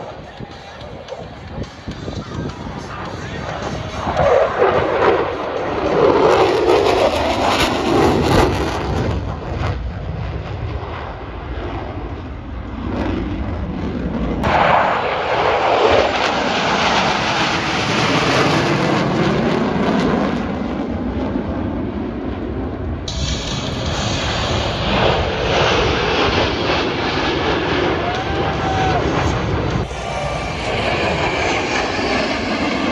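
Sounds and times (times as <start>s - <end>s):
jets flying past: 1.0s - 32.9s.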